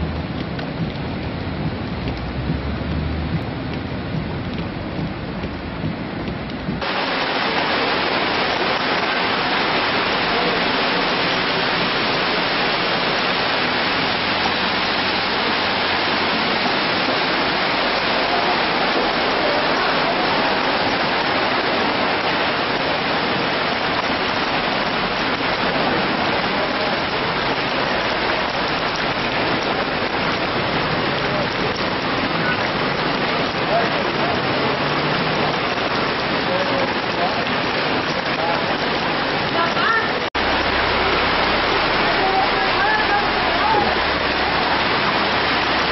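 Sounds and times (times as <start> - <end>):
floodwater rushing down street: 0.0 - 45.9
heavy rain pouring: 0.0 - 45.9.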